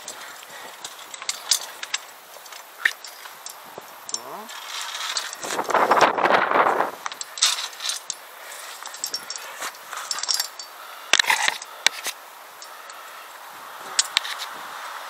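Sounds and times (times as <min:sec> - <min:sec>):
climbing gear clinking: 0:00.0 - 0:14.5.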